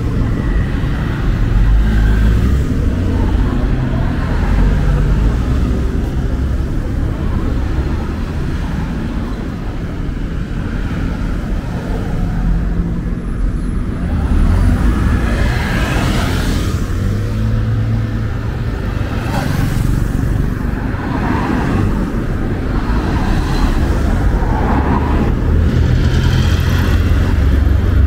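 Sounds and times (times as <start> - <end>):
vehicles passing with low rumble: 0.0 - 28.0.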